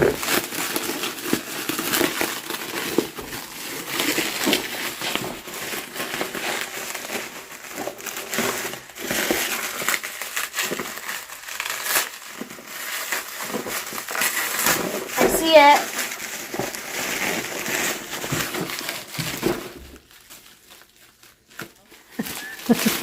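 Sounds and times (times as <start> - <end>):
packaging crinkling and tearing: 0.0 - 23.0.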